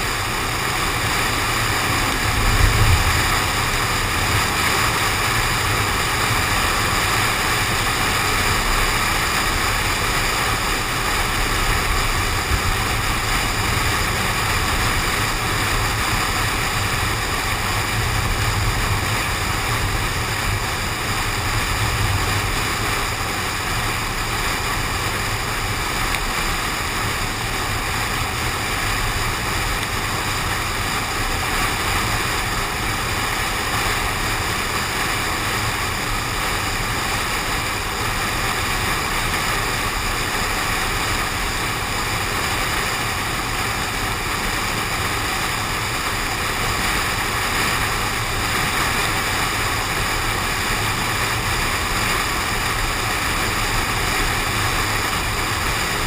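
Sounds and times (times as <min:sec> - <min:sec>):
low road rumble: 0:00.0 - 0:56.0
tyres hissing on wet road: 0:00.0 - 0:56.0.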